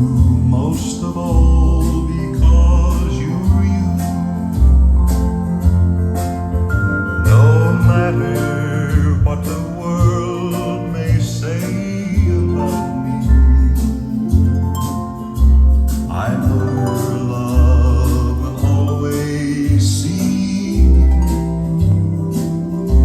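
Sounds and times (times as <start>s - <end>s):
person singing: 0.0s - 4.6s, 7.2s - 14.4s, 15.9s - 23.0s
song with drums bass and guitar: 0.0s - 23.0s.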